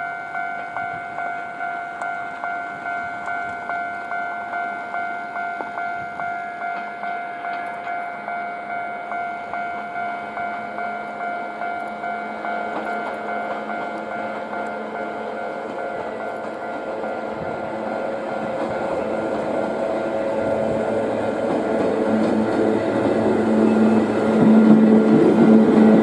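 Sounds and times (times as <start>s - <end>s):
electric train hum with held tones: 0.0s - 26.0s
train wheels running: 0.0s - 26.0s.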